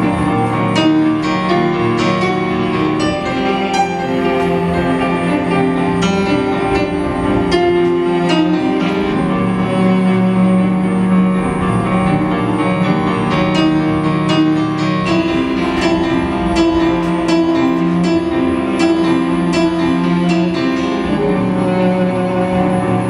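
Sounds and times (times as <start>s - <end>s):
piano-like keyboard notes: 0.0s - 23.0s
sustained chords: 0.0s - 23.0s.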